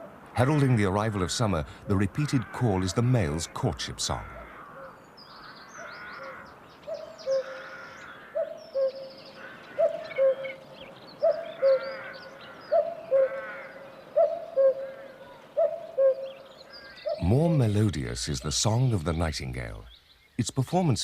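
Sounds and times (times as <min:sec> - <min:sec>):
small birds chirping: 0:00.0 - 0:21.0
cuckoo calling: 0:01.9 - 0:20.0.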